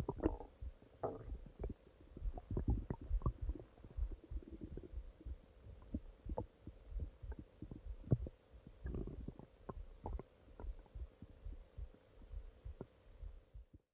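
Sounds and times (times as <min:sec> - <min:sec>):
stomach growling: 0:00.0 - 0:11.3.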